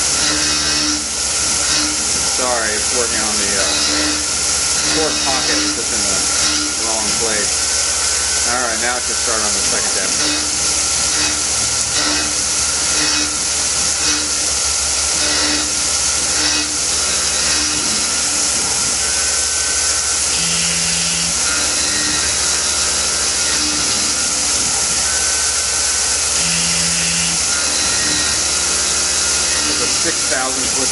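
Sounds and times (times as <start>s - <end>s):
coolant spray hiss: 0.0s - 30.9s
spindle hum: 0.0s - 30.9s.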